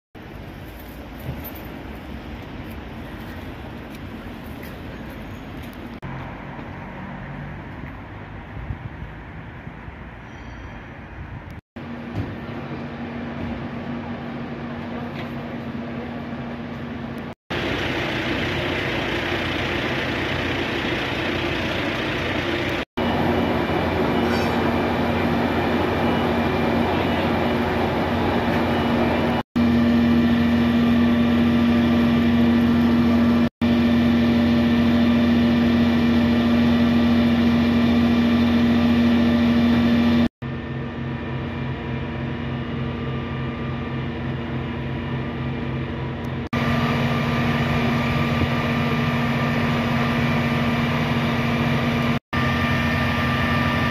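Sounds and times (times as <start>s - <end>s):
fire engine low hum: 0.2s - 53.9s.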